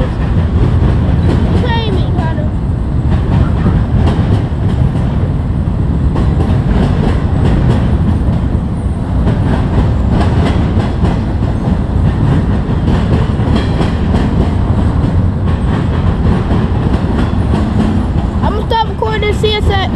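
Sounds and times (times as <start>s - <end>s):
freight train rumbling past: 0.0s - 19.9s
wheels clicking over rail joints: 0.0s - 19.9s.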